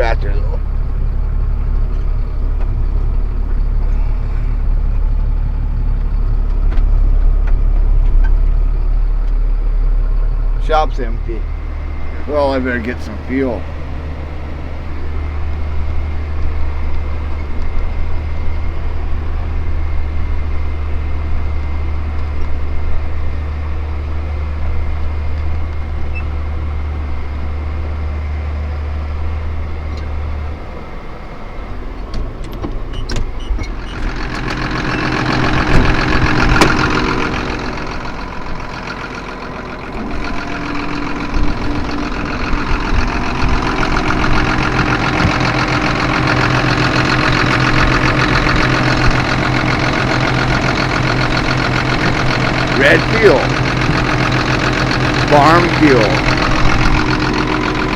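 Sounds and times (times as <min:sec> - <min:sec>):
tractor engine droning: 0:00.0 - 0:57.9.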